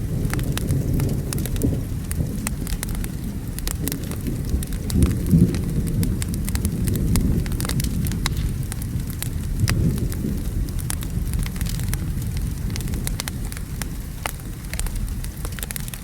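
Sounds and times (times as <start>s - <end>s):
steady rain: 0.0s - 16.0s
thunder rumbling: 0.0s - 16.0s
wood fire crackling and popping: 0.0s - 16.0s.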